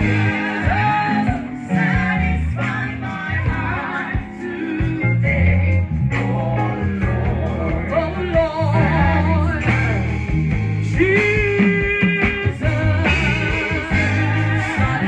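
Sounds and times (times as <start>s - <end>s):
gospel band music: 0.0s - 15.0s.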